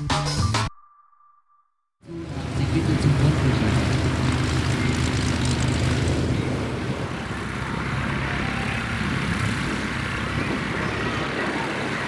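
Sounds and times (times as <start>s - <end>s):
light aircraft flying past: 2.2s - 12.0s.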